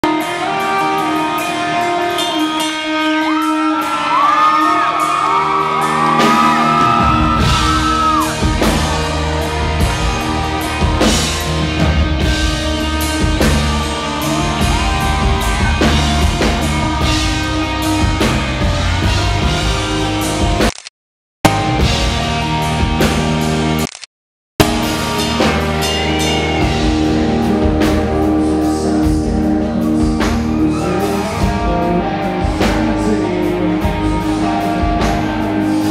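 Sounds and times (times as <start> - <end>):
live rock band: 0.0 - 20.8, 21.5 - 23.9, 24.6 - 35.9.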